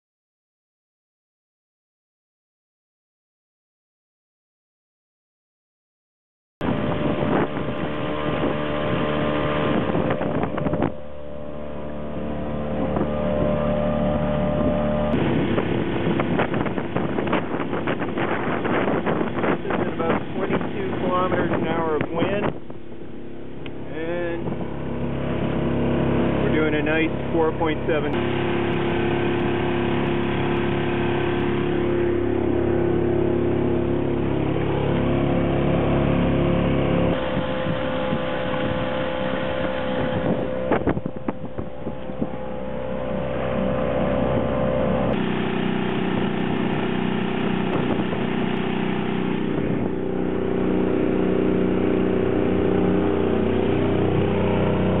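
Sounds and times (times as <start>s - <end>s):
outboard motor running: 6.6s - 55.0s.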